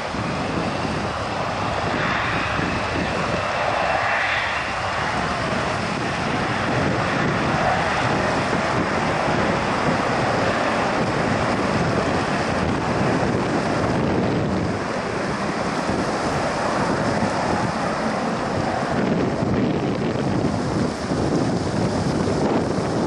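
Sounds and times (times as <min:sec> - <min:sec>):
jet engines roaring: 0:00.0 - 0:23.0
wind buffeting microphone: 0:00.0 - 0:23.0.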